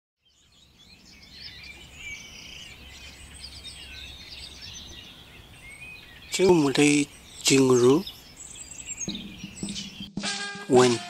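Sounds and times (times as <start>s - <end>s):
small birds chirping: 0.2s - 10.2s.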